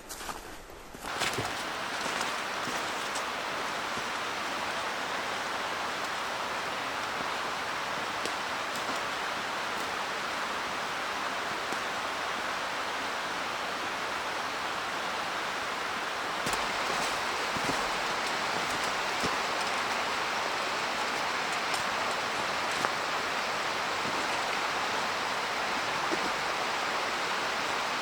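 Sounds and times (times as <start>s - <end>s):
stream rushing: 1.1s - 28.0s.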